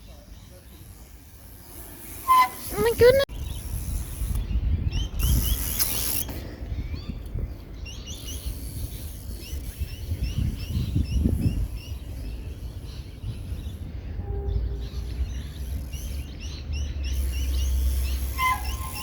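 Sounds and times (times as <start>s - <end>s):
small birds chirping: 0.0s - 19.0s
low wind rumble: 0.8s - 19.0s.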